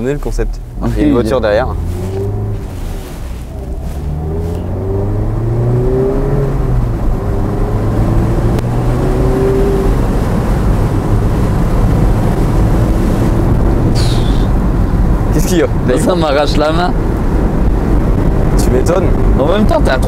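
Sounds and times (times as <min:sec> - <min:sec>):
wind and road noise: 0:00.0 - 0:20.0
car engine accelerating hard: 0:00.7 - 0:20.0.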